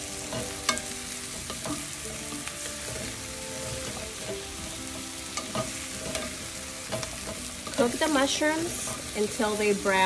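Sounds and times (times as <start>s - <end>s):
mushrooms and onions sizzling: 0.0s - 10.0s
utensil clicking against pan: 0.2s - 9.3s.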